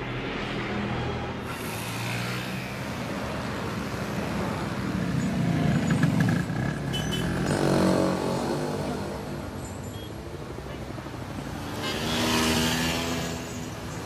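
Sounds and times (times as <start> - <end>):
passing vehicle engines: 0.0 - 14.0
steady traffic din: 0.0 - 14.0.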